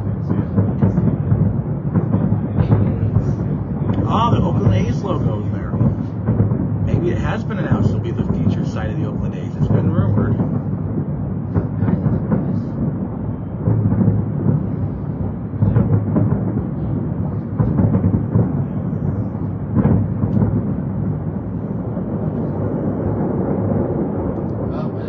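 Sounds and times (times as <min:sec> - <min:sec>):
distant fireworks rumble: 0:00.0 - 0:25.0
fireworks bangs: 0:00.0 - 0:25.0.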